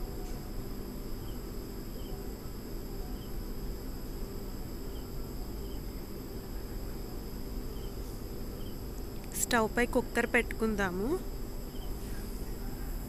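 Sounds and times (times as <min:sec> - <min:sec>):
crickets trilling: 0:00.0 - 0:13.0
low background hum: 0:00.0 - 0:13.0.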